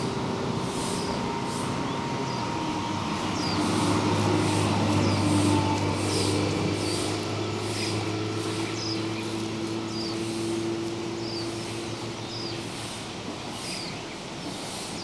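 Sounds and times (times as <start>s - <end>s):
high falling bird chirp: 0.0s - 15.0s.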